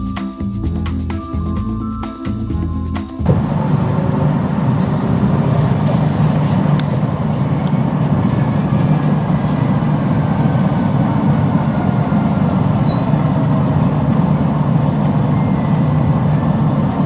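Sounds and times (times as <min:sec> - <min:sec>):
faint high whine: 0:03.1 - 0:17.0
monorail rumble: 0:03.2 - 0:17.0.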